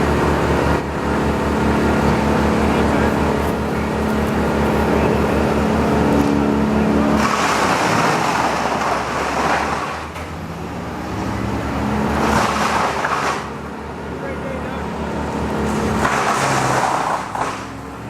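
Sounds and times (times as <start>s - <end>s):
machinery engine rumbling: 0.0s - 18.0s.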